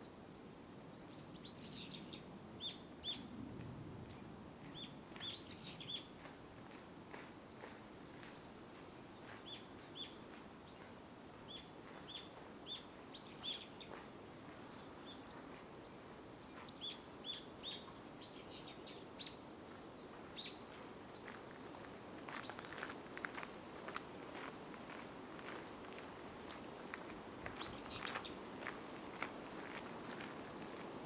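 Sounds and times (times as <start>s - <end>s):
faint outdoor hiss: 0.0s - 31.0s.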